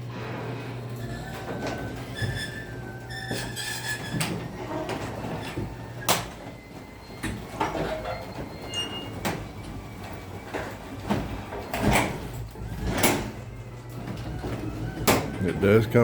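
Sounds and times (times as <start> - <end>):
garage door opener motor humming: 0.0 - 16.0.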